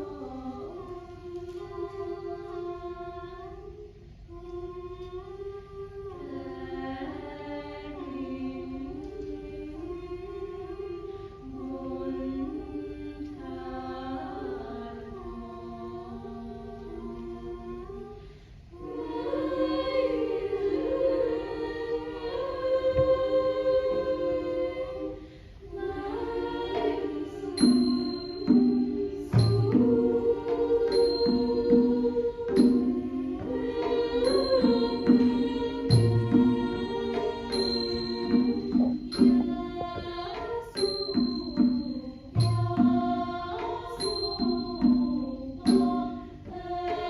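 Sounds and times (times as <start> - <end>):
choir singing in harmony: 0.0 - 47.0.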